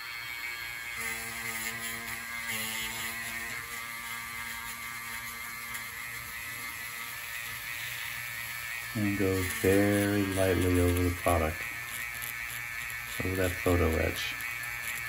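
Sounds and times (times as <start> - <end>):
rotary tool motor whine: 0.0 - 15.0.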